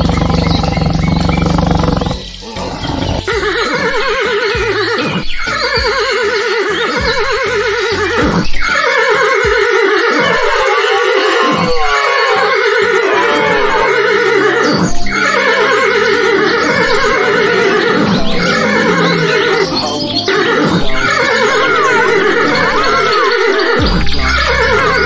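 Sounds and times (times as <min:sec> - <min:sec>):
background music: 0:00.0 - 0:25.0
horse whinnying: 0:00.0 - 0:25.0.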